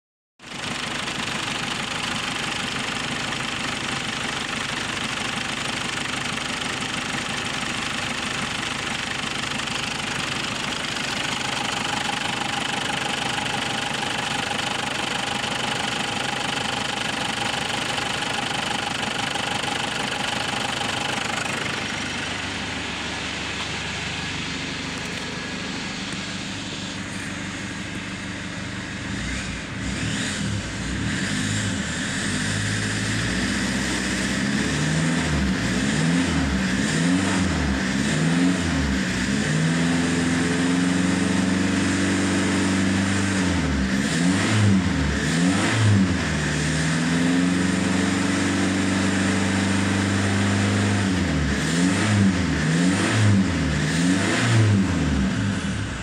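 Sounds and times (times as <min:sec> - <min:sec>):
diesel engine idling and revving: 0:00.4 - 0:56.0.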